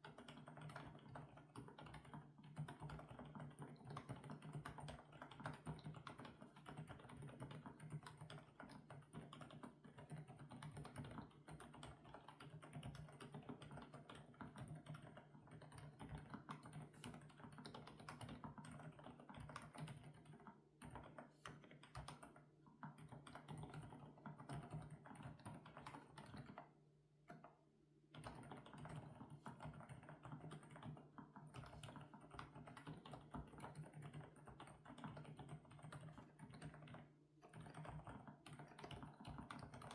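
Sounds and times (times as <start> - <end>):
fast typing on mechanical keyboard: 0.0 - 26.7, 28.1 - 39.9.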